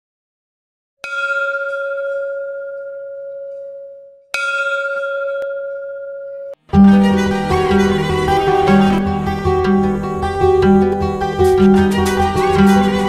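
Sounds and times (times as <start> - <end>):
bell ringing: 1.0 - 13.0.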